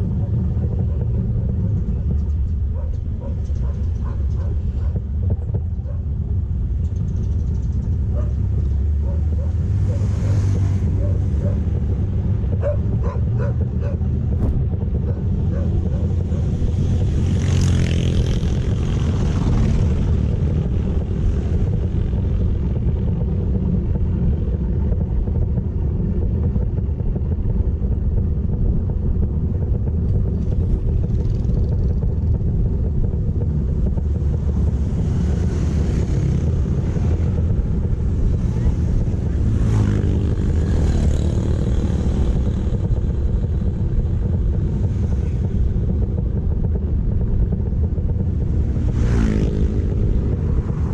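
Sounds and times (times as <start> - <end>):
motorcycle engine rumble: 0.0 - 50.9
wind buffeting microphone: 0.0 - 50.9.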